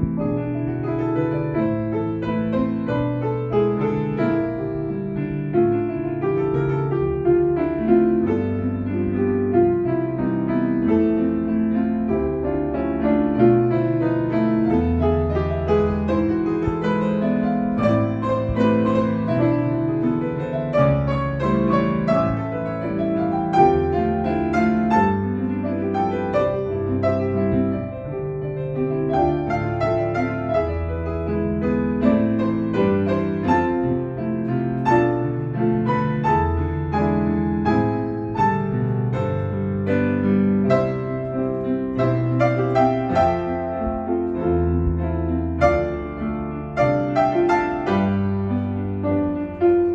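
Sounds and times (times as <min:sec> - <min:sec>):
piano playing: 0:00.0 - 0:49.9.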